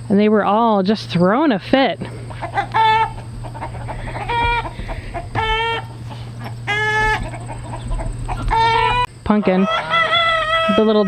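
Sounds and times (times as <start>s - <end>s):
steady low hum: 0.0s - 11.0s
chickens squawking alarm calls: 2.0s - 11.0s.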